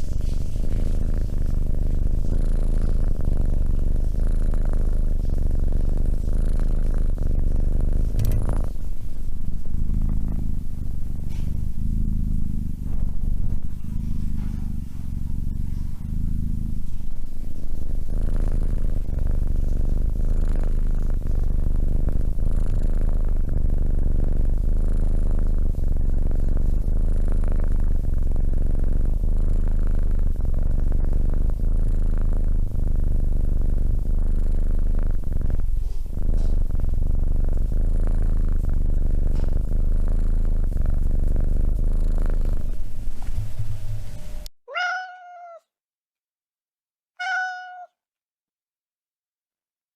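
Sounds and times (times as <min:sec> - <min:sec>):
cat purring: 0:00.0 - 0:45.6, 0:47.2 - 0:47.9.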